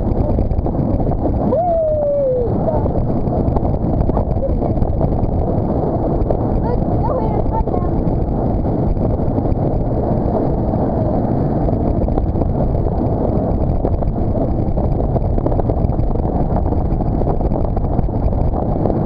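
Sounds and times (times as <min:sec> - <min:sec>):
motorboat engine drone: 0:00.0 - 0:19.0
wind buffeting microphone: 0:00.0 - 0:19.0.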